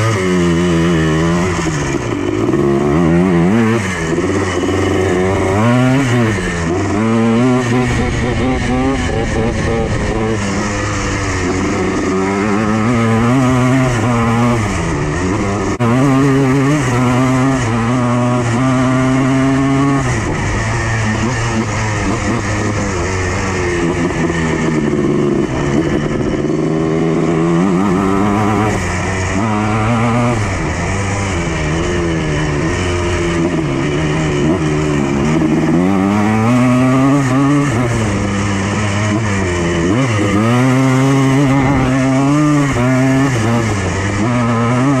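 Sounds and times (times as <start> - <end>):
two-stroke engine revving: 0.0 - 45.0.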